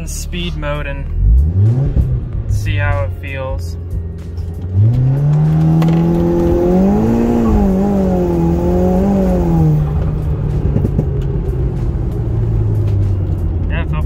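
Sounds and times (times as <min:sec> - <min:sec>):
car engine accelerating hard: 0:01.1 - 0:02.8, 0:03.9 - 0:14.0.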